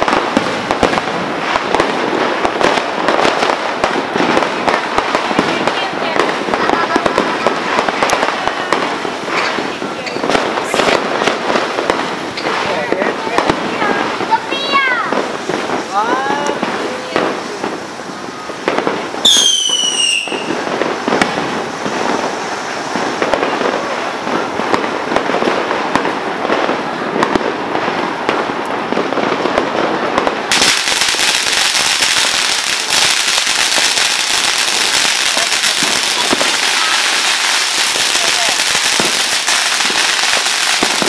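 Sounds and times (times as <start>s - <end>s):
fireworks crackling and popping: 0.0s - 41.0s
loud steady hiss: 0.0s - 41.0s
whistling firework: 0.0s - 41.0s.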